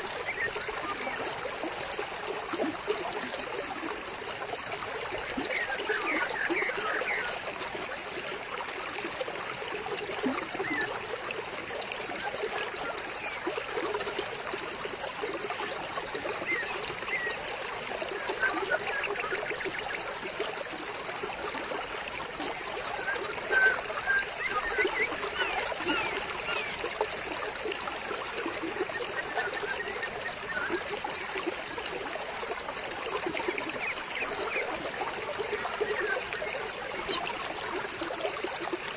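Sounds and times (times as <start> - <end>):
stream trickling and gurgling: 0.0 - 38.9.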